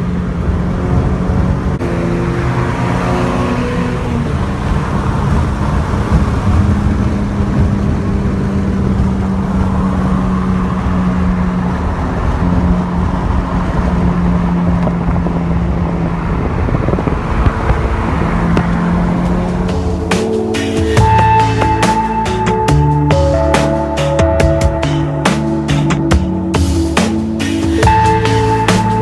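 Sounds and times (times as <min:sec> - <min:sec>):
car engine low drone: 0:00.0 - 0:29.0.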